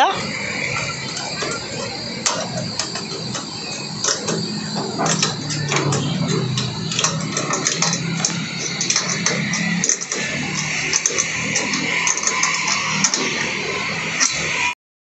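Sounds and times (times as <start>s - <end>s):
steady low hum: 0.0s - 14.8s
clicks and taps on metal frame: 1.2s - 13.4s.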